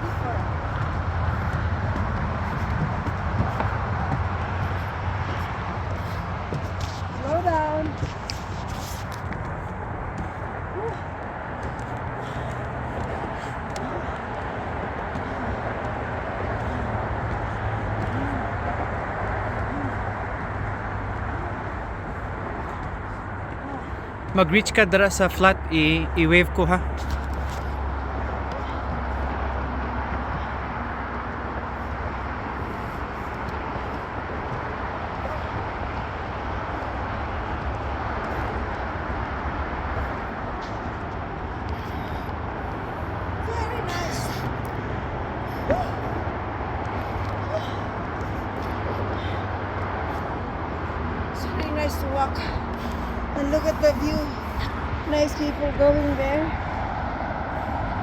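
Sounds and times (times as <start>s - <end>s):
road traffic roar: 0.0s - 58.0s.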